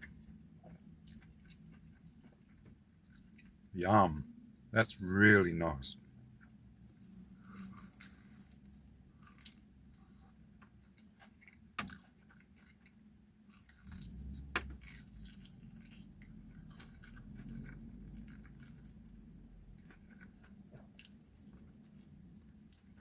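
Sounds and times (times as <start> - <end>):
person chewing crunchy food: 0.0 - 3.7, 6.3 - 23.0.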